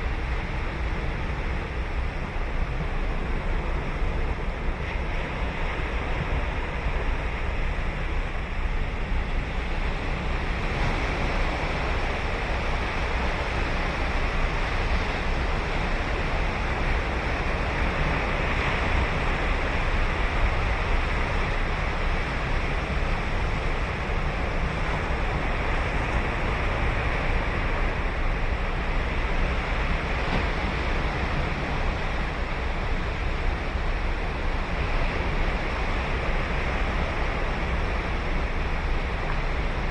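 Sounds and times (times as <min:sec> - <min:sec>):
ocean surf on sandy beach: 0:00.0 - 0:39.9
wind on microphone: 0:00.0 - 0:39.9.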